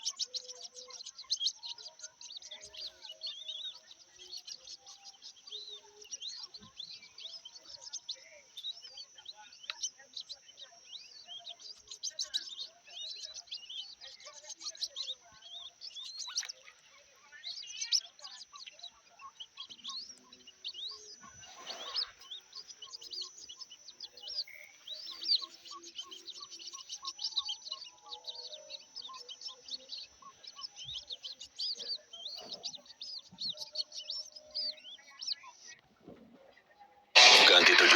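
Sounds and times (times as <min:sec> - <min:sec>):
chicks cheeping: 0:00.0 - 0:35.8, 0:37.2 - 0:37.9.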